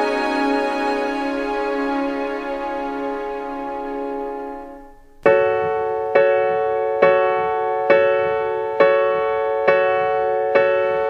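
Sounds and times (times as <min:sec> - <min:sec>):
piano chord ringing: 0:00.0 - 0:11.0.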